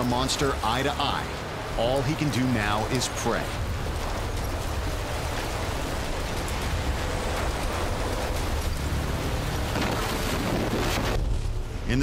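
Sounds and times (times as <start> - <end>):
tornado wind rushing: 0.0 - 12.0.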